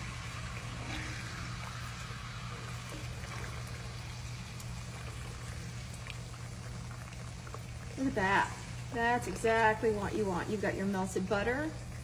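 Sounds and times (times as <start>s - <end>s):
butter and candy sizzling in skillet: 0.0s - 12.0s.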